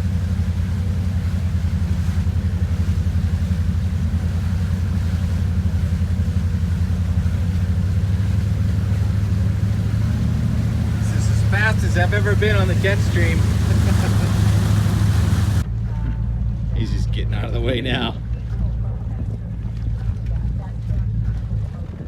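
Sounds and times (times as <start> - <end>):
motorboat engine throbbing: 0.0 - 22.0.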